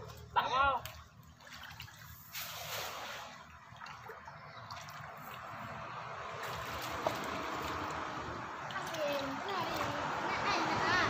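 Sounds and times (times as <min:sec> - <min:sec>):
muddy water sloshing and trickling: 0:00.0 - 0:11.0
water splashing: 0:00.0 - 0:11.0.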